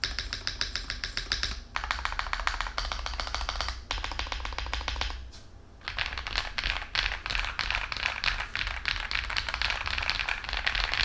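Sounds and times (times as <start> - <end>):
fast typing on mechanical keyboard: 0.0 - 5.2, 5.8 - 11.0.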